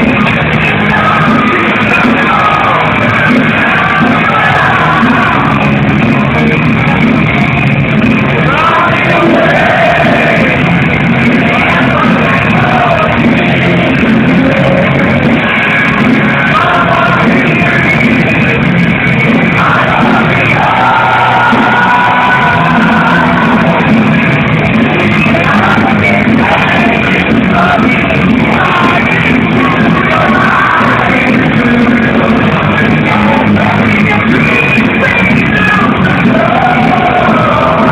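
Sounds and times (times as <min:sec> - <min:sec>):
man singing: 0:00.0 - 0:07.5, 0:08.2 - 0:37.9
power metal band playing: 0:00.0 - 0:37.9.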